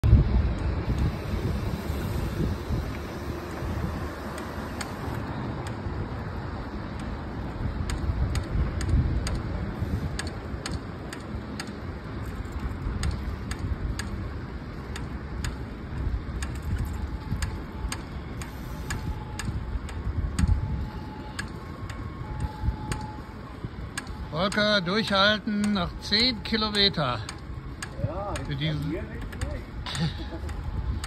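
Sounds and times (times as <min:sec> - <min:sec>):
road rumble: 0:00.0 - 0:31.0
wind: 0:00.0 - 0:31.0
broken spoke ticking: 0:02.7 - 0:31.0.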